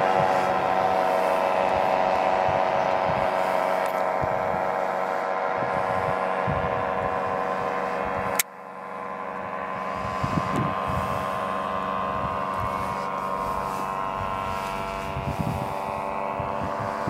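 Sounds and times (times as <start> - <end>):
distant paramotor engine droning: 0.0 - 17.0.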